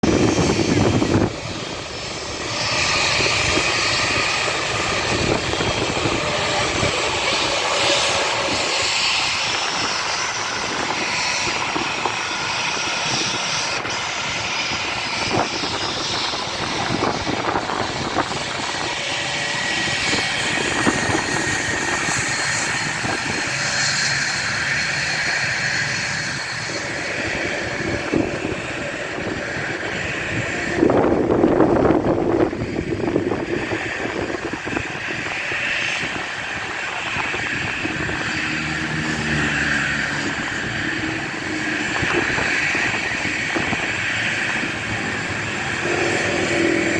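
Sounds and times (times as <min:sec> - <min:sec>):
jet engines roaring and whining: 0:00.0 - 0:46.9.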